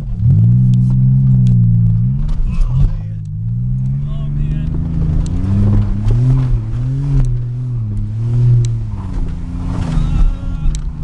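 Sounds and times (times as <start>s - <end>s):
car engine revving: 0.0s - 11.0s
car knocking and rattling: 0.0s - 11.0s.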